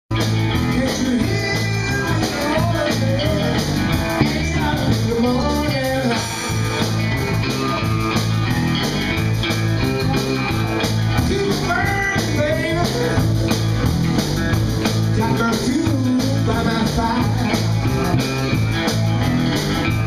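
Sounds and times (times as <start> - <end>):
bass guitar: 0.1 - 20.0
drum kit beat: 0.1 - 20.0
electric guitars: 0.1 - 20.0.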